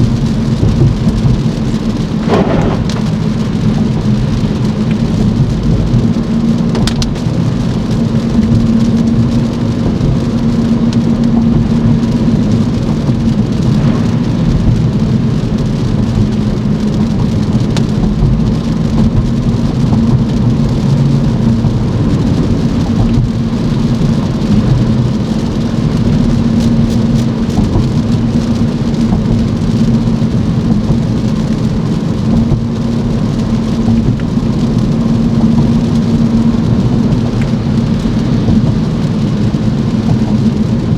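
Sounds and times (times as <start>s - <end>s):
car engine and road hum: 0.0s - 40.9s
steady rain: 0.0s - 40.9s.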